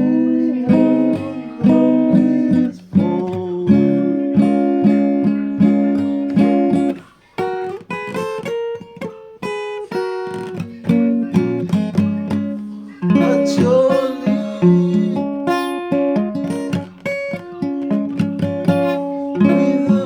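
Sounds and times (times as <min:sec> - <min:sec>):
acoustic guitar picked notes: 0:00.0 - 0:20.0
acoustic guitar strummed chords: 0:00.0 - 0:20.0.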